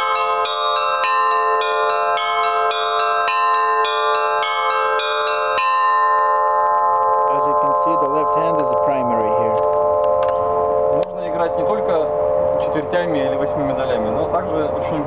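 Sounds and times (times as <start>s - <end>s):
bells struck in alternating pattern: 0.0s - 15.0s.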